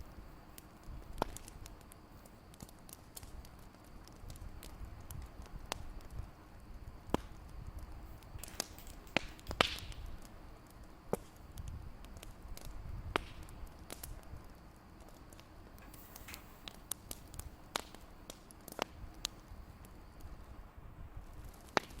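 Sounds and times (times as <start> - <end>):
wood fire pops and snaps: 0.0 - 20.5, 21.2 - 22.0
low rumble of flames: 0.0 - 22.0.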